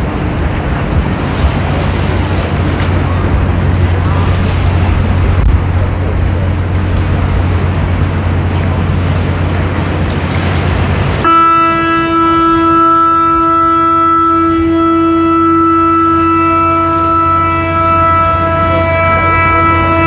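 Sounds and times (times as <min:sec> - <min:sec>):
choppy water: 0:00.0 - 0:20.0
wind: 0:00.0 - 0:20.0
ship's horn blast: 0:01.2 - 0:20.0.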